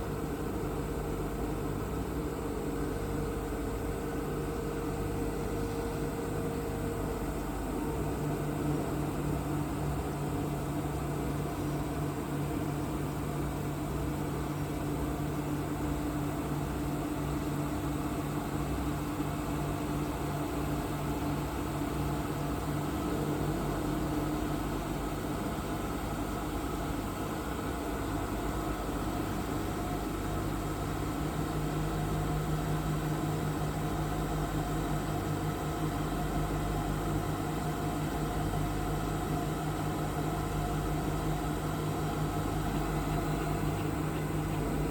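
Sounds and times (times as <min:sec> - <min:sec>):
machining centre hum: 0:00.0 - 0:44.9.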